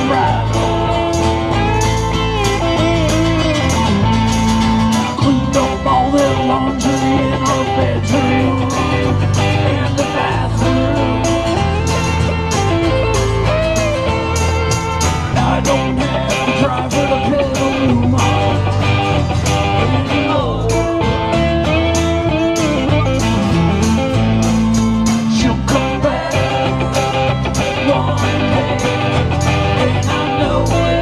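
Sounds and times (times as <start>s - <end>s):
person singing: 0.0s - 13.9s, 15.3s - 31.0s
live band playing country blues: 0.0s - 31.0s.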